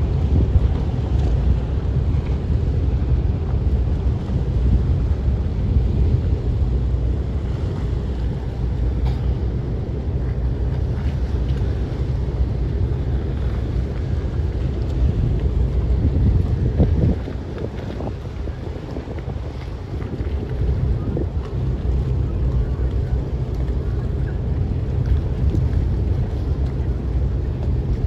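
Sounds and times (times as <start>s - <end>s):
ferry engine rumble: 0.0s - 28.0s
water noise: 0.0s - 28.0s
wind buffeting microphone: 0.0s - 28.0s.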